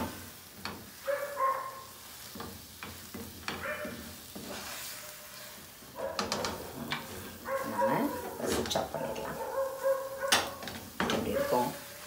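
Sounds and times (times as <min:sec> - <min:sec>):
ghee sizzling: 0:00.0 - 0:12.0
spatula scraping frying pan: 0:01.8 - 0:12.0.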